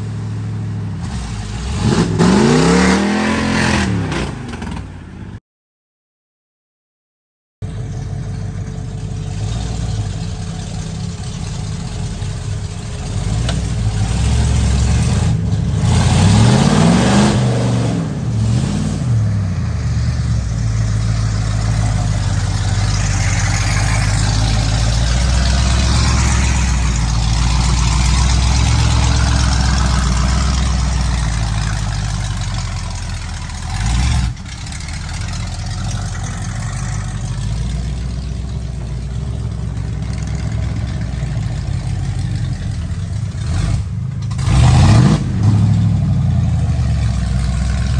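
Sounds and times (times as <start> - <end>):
truck engine revving: 0.0 - 5.0, 9.0 - 47.9.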